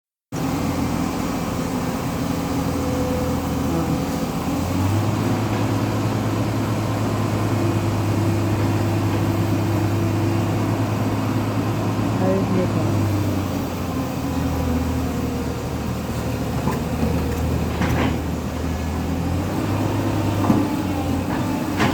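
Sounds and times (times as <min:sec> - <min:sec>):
heavy diesel engine revving: 0:00.4 - 0:21.9.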